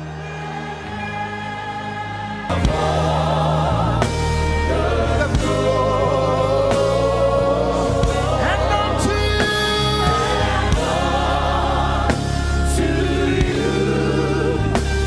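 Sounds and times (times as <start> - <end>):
choir singing gospel: 0.0 - 15.0
sustained accompaniment: 0.0 - 15.0.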